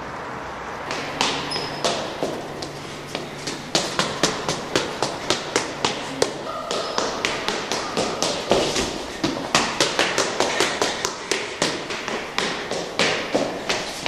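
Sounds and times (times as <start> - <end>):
footsteps running up stone stairs: 0.8 - 14.0.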